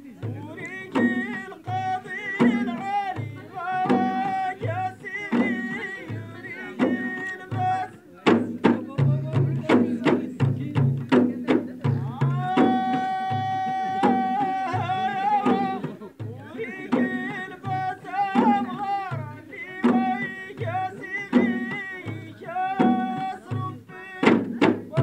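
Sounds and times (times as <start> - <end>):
hand drum beats: 0.1 - 25.0.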